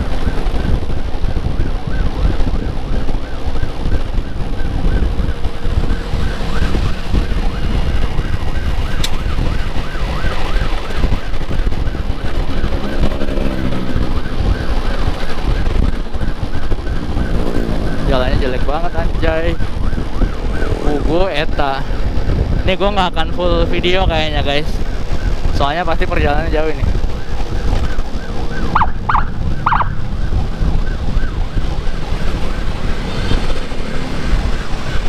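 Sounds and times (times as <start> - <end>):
emergency siren yelp and wail: 0.0 - 35.0
wind and road noise: 0.0 - 35.0.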